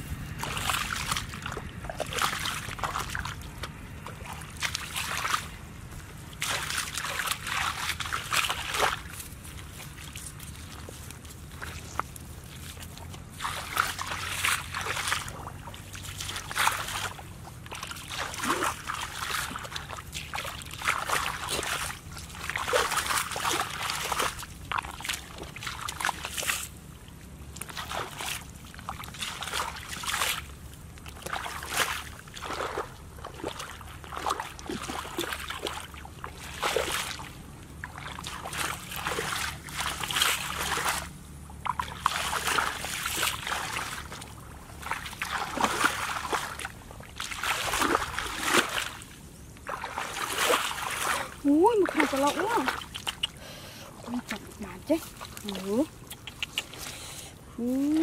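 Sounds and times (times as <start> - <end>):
feet splashing through muddy water: 0.0 - 58.0.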